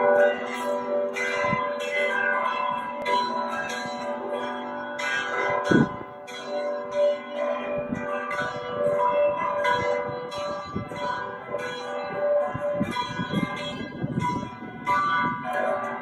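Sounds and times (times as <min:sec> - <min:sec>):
church bells ringing a peal: 0:00.0 - 0:16.0.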